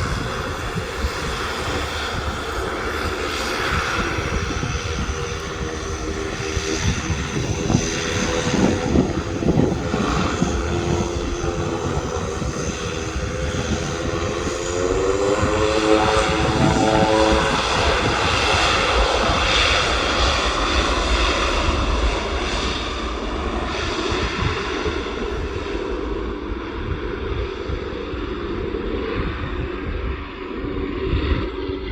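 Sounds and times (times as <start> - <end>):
aircraft engines running: 0.0 - 31.9.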